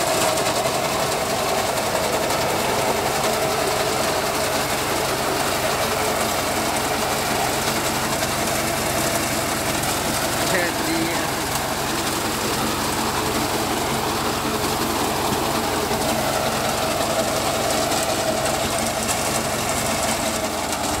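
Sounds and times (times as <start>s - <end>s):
reaper mechanical clatter: 0.0s - 21.0s
tractor engine running: 0.0s - 21.0s.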